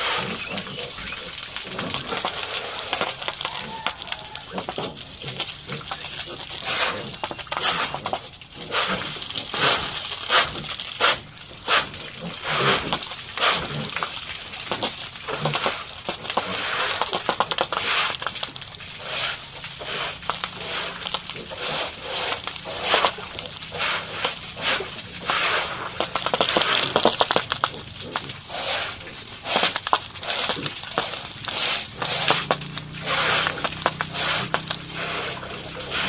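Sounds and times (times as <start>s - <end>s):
pigs grunting: 0.0s - 36.0s.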